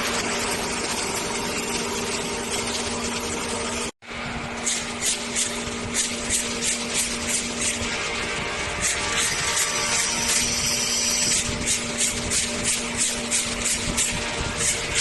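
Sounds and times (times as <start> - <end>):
surface grinder motor hum: 0.0 - 15.0.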